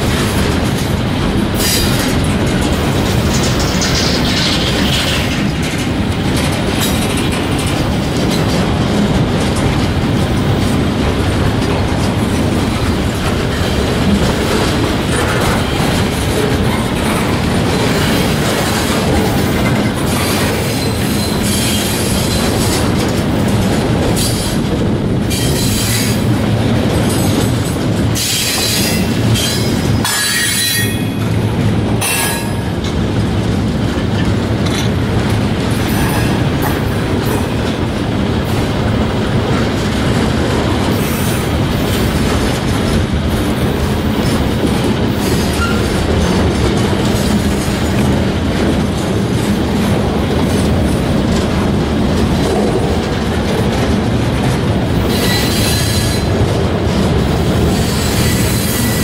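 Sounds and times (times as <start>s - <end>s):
freight train wheels clattering on rails: 0.0s - 59.0s.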